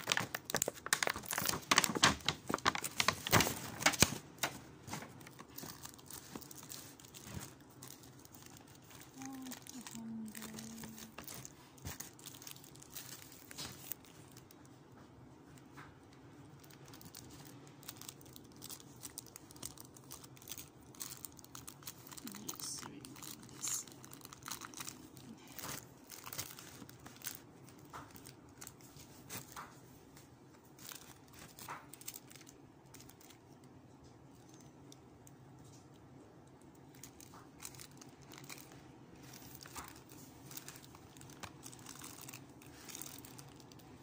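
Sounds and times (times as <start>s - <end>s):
plastic film crinkling: 0.0s - 35.0s, 36.6s - 44.0s.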